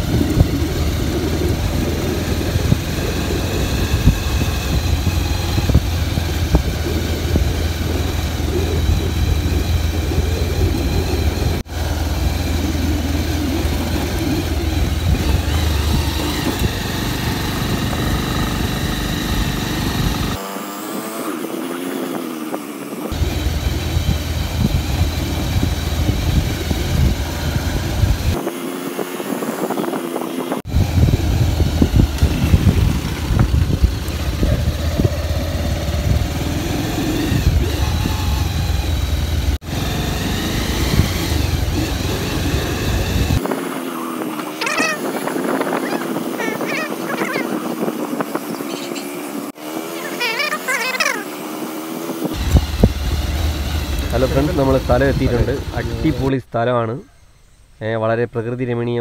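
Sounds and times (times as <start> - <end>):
wind rumble on microphone: 0.0 - 49.5
motorbike engine running: 0.0 - 56.3.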